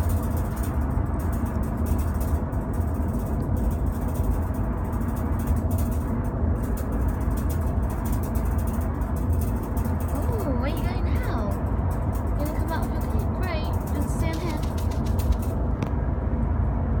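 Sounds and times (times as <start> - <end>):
car interior road rumble: 0.0 - 17.0.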